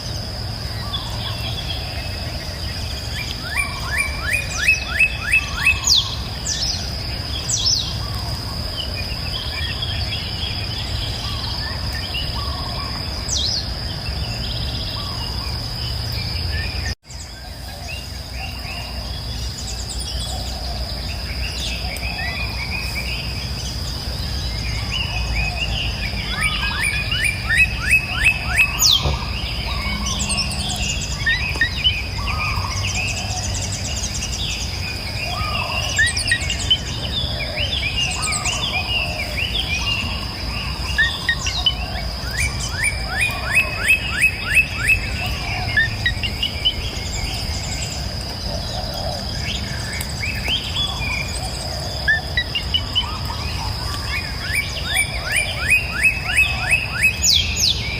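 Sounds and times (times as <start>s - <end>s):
high insect trill: 0.0s - 57.9s
songbirds singing: 0.0s - 57.9s.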